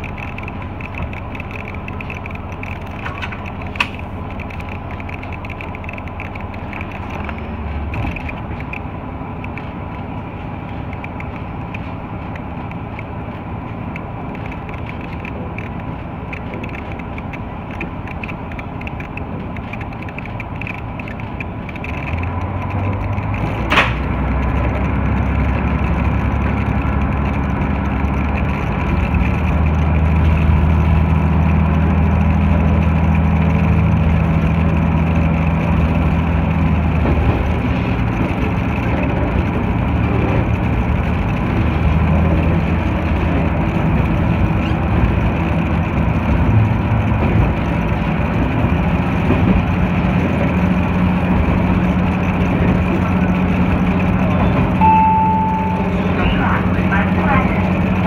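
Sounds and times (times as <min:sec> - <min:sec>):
diesel railcar engine: 0:00.0 - 0:58.0.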